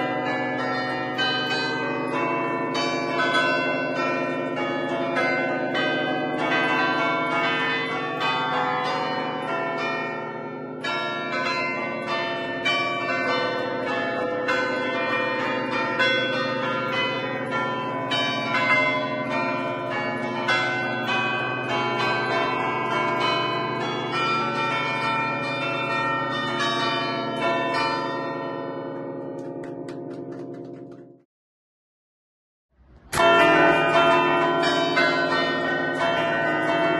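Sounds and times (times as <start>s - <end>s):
church bells playing lively tune: 0.0s - 31.2s, 33.1s - 36.9s.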